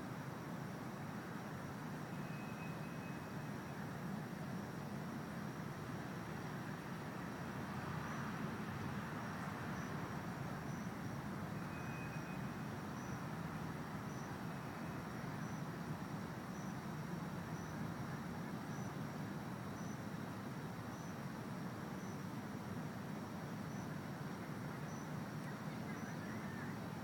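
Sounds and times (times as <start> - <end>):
faint high whine: 0.0 - 8.5, 9.1 - 27.0
distant city traffic rumble: 0.0 - 27.0.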